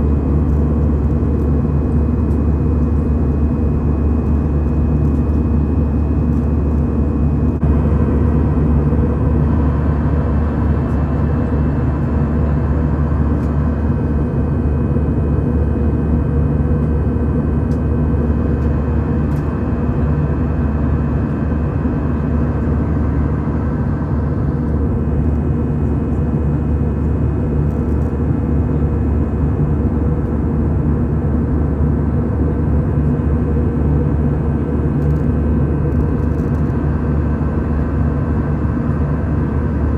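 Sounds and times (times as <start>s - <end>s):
engine and airflow drone: 0.0s - 39.9s.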